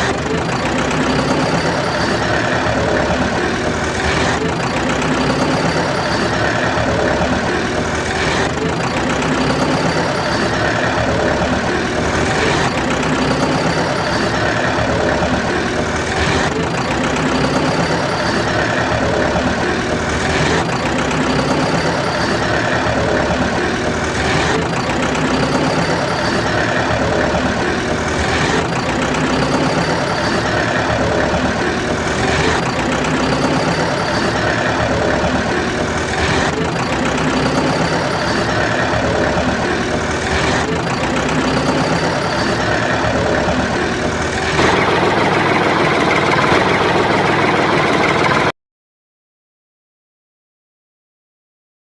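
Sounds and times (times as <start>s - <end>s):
tractor engine idling: 0.0s - 48.5s.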